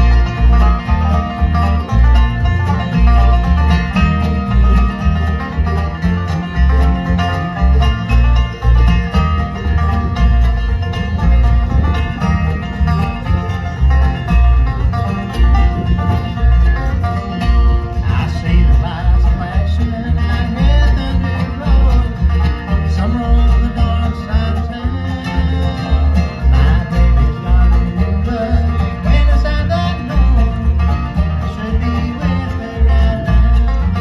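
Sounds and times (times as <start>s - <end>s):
banjo rolls: 0.0s - 34.0s
guitar: 0.0s - 34.0s
low bass notes: 0.0s - 34.0s.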